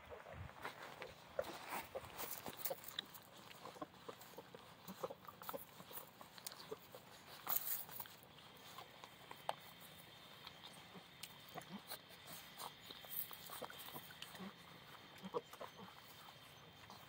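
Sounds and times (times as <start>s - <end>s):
puppies suckling: 0.0s - 17.0s
puppy grunts and squeaks: 1.4s - 8.8s, 10.6s - 17.0s.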